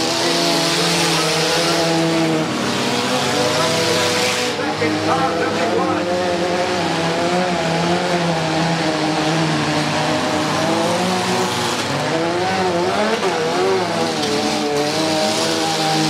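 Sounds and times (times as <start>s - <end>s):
racing car engines: 0.0s - 16.0s.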